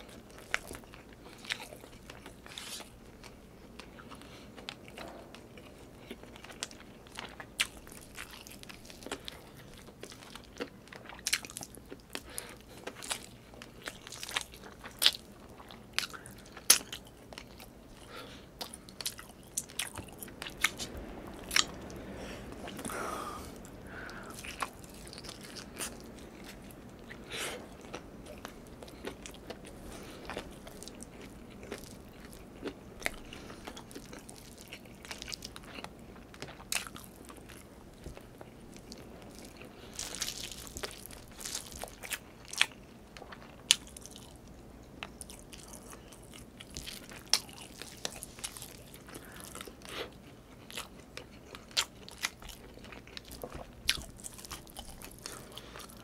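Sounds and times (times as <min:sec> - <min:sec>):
person chewing and biting food: 0:00.0 - 0:44.4, 0:45.0 - 0:56.0.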